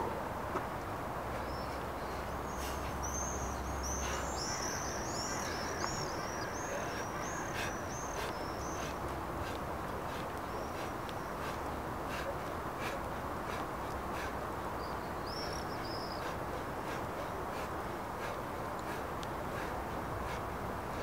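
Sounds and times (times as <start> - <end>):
outdoor background noise: 0.0 - 21.0
small birds chirping: 1.3 - 21.0.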